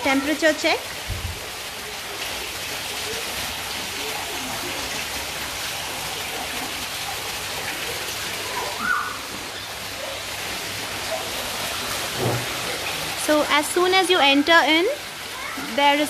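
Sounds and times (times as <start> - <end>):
waterfall fountain rushing: 0.0 - 16.0.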